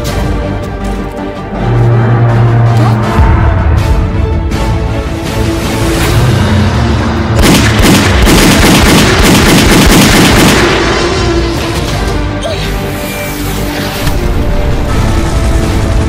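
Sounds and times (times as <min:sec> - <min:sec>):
dramatic film score: 0:00.0 - 0:16.0.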